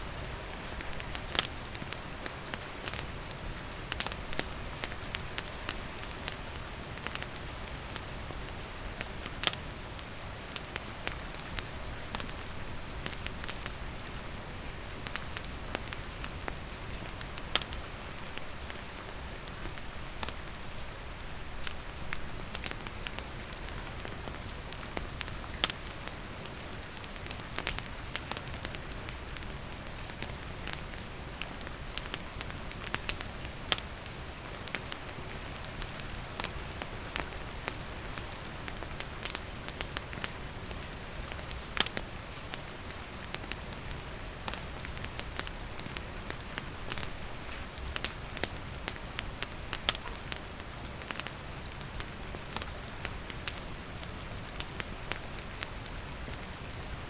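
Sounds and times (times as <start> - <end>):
rain falling: 0.0 - 57.0
wood fire crackling: 0.0 - 57.0.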